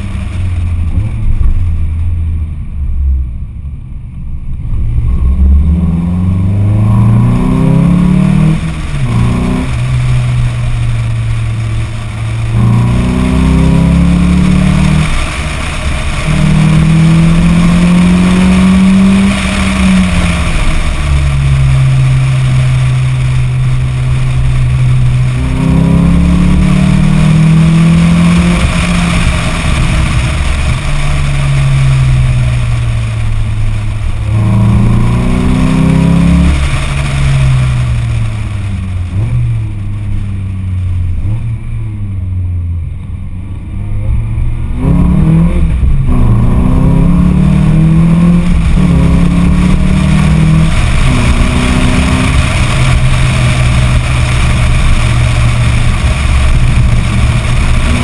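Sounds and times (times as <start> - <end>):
car engine revving and cruising: 0.0 - 58.0.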